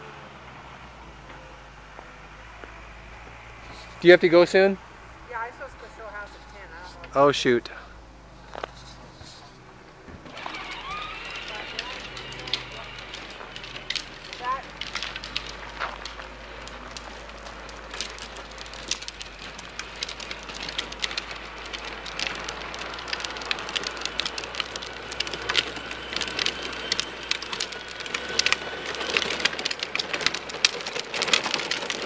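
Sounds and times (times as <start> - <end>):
faint electric motor whine: 0.0 - 32.0
plastic wheels rolling on asphalt: 0.0 - 32.0.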